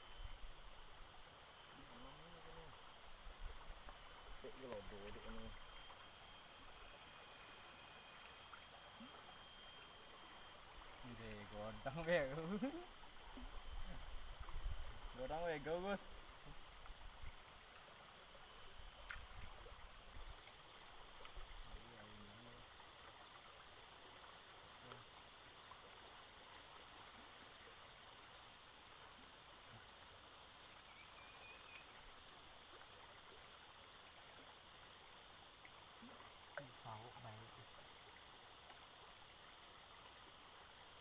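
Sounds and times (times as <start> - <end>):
faint background hiss: 0.0 - 41.0
insects droning: 0.0 - 41.0.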